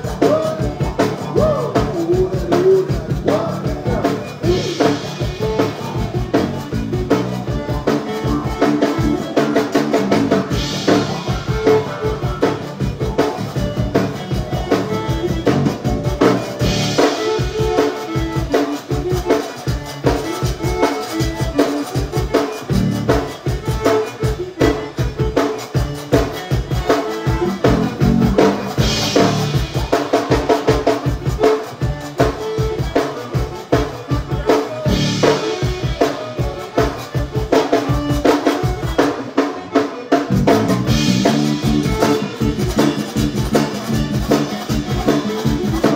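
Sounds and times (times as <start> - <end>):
kick and snare drum beat: 0.0 - 39.0
band playing instrumental: 0.0 - 45.9.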